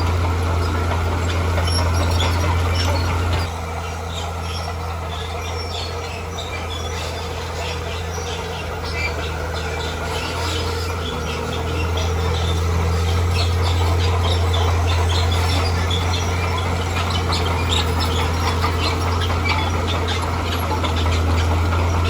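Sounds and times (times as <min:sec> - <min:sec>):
diesel engine humming: 0:00.0 - 0:22.0.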